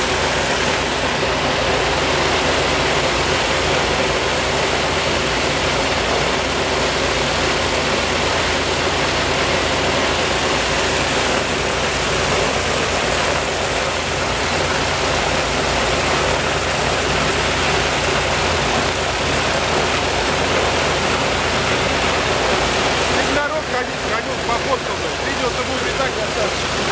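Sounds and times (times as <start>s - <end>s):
loud radial aircraft engine running: 0.0s - 26.9s.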